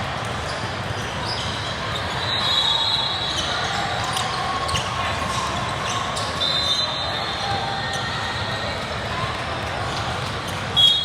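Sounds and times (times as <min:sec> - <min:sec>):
murmur of voices: 0:00.0 - 0:11.0.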